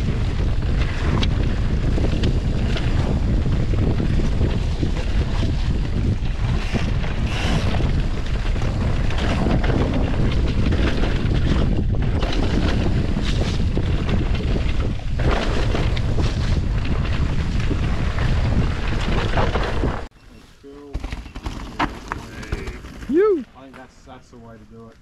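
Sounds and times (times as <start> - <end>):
wind rushing over microphone: 0.0 - 20.1
bike rattling and knocking: 0.0 - 20.2, 20.8 - 24.0.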